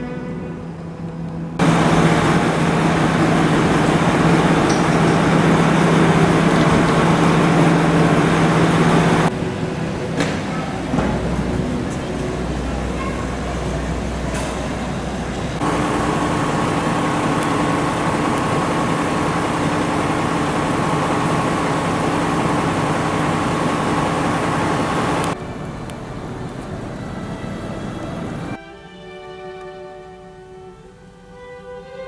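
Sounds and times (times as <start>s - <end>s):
steady hum with held tones: 0.0s - 32.0s
vehicle running noise: 0.4s - 28.6s.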